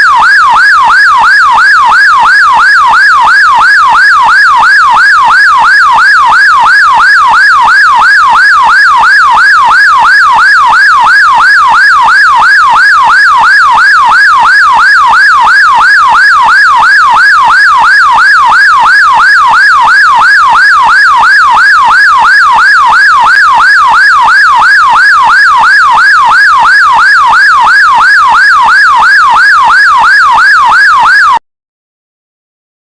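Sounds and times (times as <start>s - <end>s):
emergency siren yelp: 0.0s - 31.4s.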